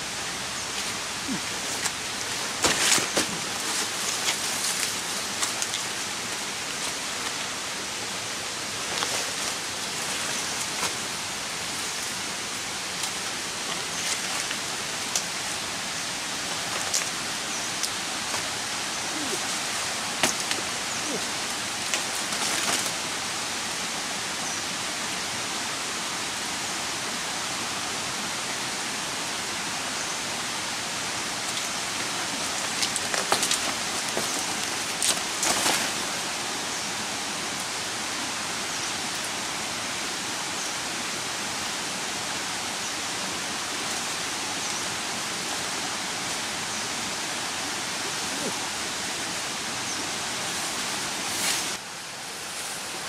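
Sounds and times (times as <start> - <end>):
leaves and stems crackling: 0.0 - 23.8, 31.1 - 39.5, 42.3 - 53.0
steady hiss: 0.0 - 53.0.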